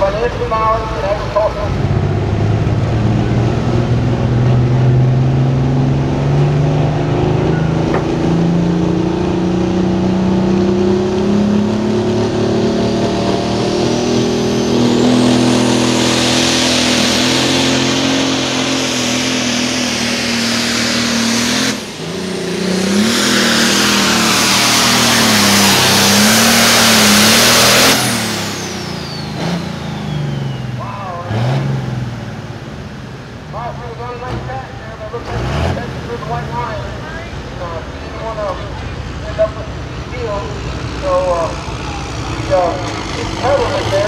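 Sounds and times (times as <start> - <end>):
diesel engine under full load: 0.0 - 44.0.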